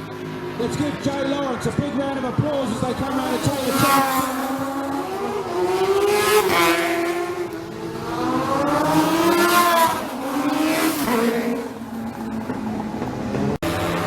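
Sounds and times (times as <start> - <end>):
racing motorcycles passing: 0.0 - 14.0.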